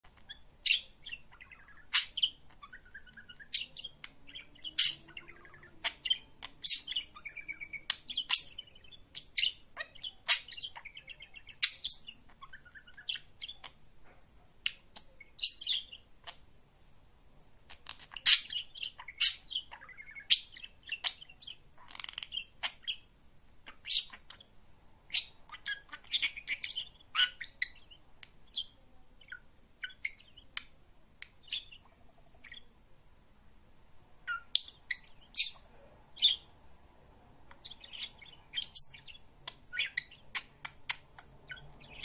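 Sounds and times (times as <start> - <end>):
budgerigar chirping: 0.0 - 13.8, 14.6 - 16.4, 17.7 - 24.5, 25.1 - 32.7, 34.3 - 36.6, 37.5 - 42.0.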